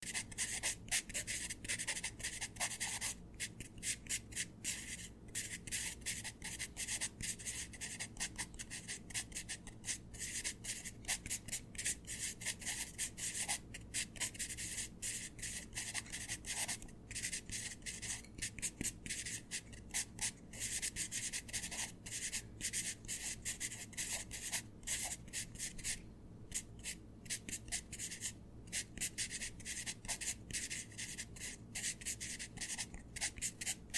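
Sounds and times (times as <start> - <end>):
pencil writing on paper: 0.0 - 33.9.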